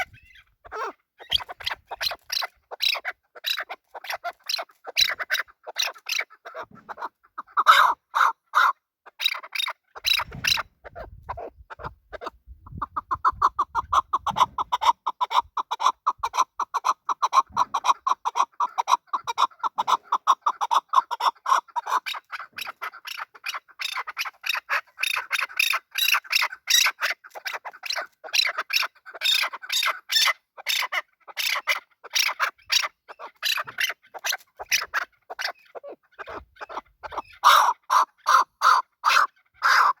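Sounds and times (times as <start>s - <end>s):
partridge calling: 0.0s - 40.0s.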